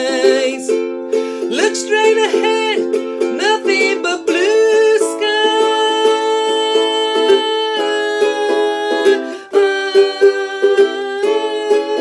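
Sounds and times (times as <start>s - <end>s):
woman singing: 0.0s - 0.8s, 1.5s - 12.0s
ukulele strumming: 0.0s - 12.0s.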